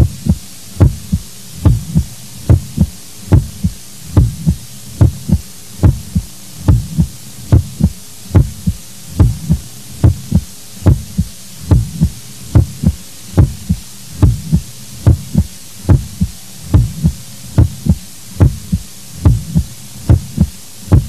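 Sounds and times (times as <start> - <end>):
faint low hum: 0.0 - 21.0
heartbeat thumps: 0.0 - 21.0.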